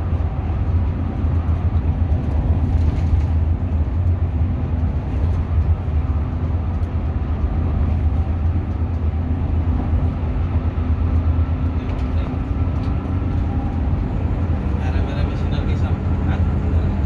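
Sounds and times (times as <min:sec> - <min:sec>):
coach engine drone: 0:00.0 - 0:17.0
road rumble: 0:00.0 - 0:17.0.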